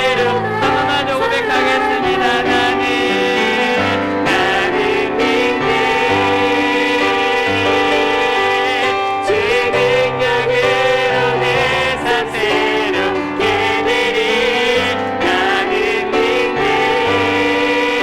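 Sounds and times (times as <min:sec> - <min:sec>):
keyboard chords: 0:00.0 - 0:18.0
person singing: 0:00.0 - 0:18.0.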